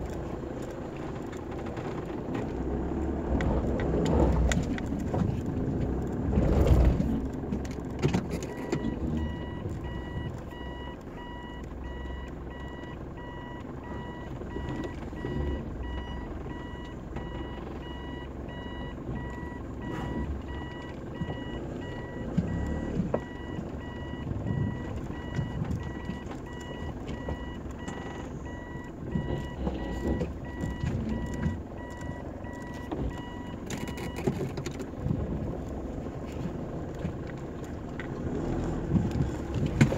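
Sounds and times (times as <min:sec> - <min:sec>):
engine rumble inside vehicle: 0:00.0 - 0:39.9.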